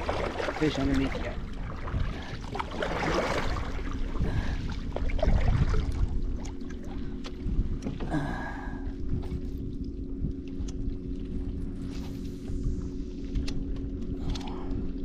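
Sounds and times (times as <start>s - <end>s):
water splashing against hull: 0.0s - 15.0s
wind rumbling on microphone: 0.0s - 15.0s.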